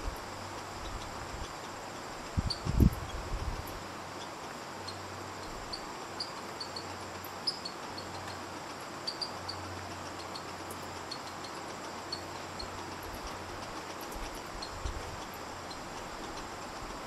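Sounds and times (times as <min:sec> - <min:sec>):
even hiss: 0:00.0 - 0:17.0
high-pitched insect trill: 0:00.0 - 0:17.0.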